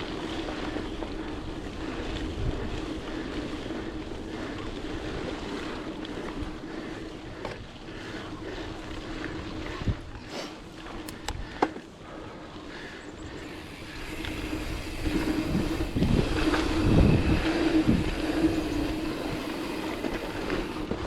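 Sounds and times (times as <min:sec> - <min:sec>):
bike rattling over ground: 0:00.0 - 0:10.1, 0:13.3 - 0:21.0
bike tyres rolling on dirt: 0:00.0 - 0:21.0.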